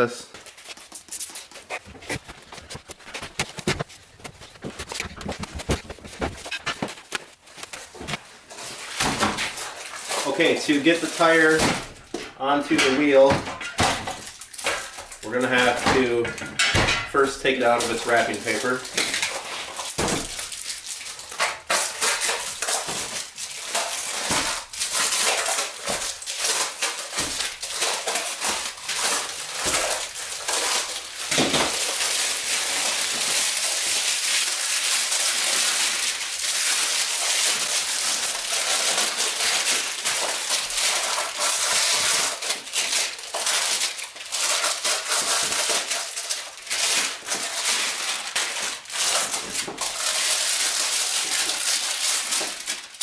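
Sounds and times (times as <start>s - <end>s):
paper ripping: 0.0s - 12.0s, 17.2s - 53.0s
paper crackling and rustling: 0.0s - 53.0s.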